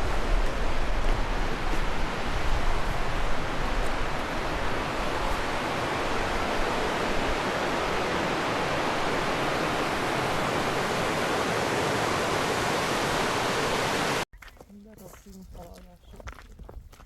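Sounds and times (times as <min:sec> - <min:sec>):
fast river rushing: 0:00.0 - 0:14.2.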